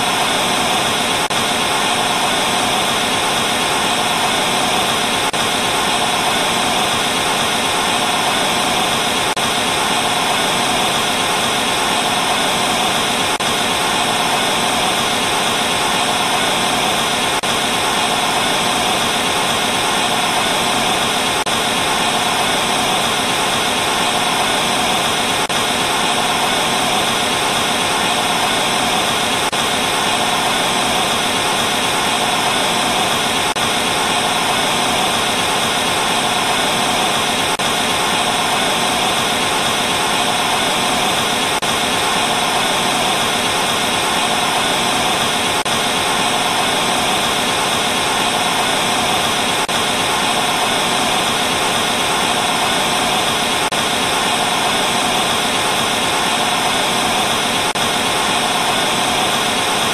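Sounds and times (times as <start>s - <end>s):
tv static hiss: 0.0s - 59.9s.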